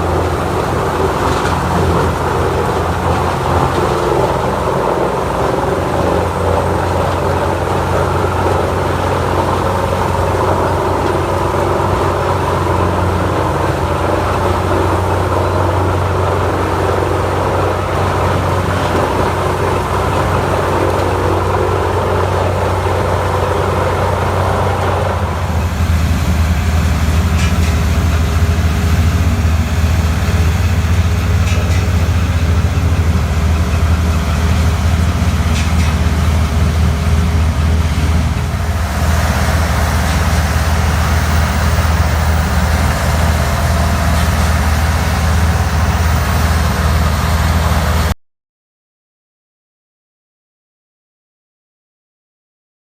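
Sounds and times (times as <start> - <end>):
heavy machine engine humming: 0.0 - 48.2.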